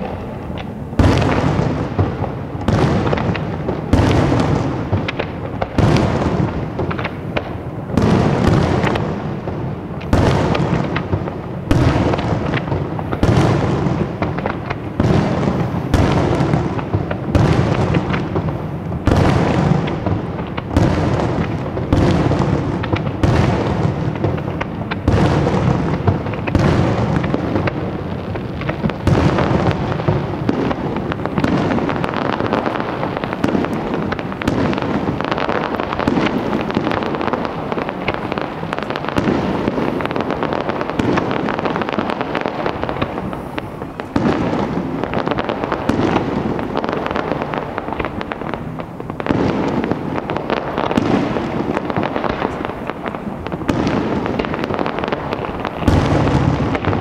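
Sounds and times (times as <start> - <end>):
fireworks crackle: 0.0 - 57.0.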